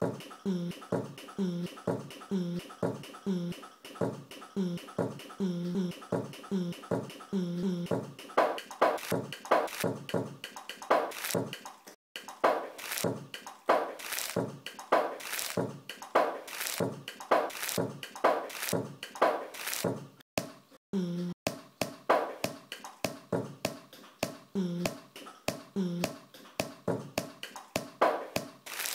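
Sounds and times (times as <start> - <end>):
beatbox percussive hits: 0.0 - 19.5, 21.5 - 28.6.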